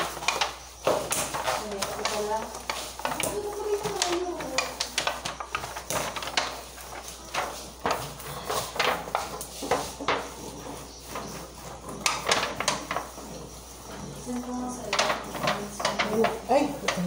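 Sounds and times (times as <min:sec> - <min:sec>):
utensils clinking on pots and dishes: 0:00.0 - 0:17.0.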